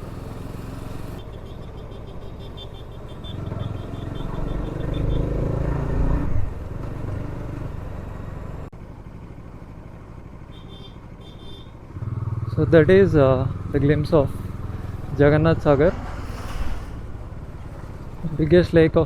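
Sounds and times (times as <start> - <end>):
motorcycle engine running: 0.0 - 15.9, 17.1 - 19.0.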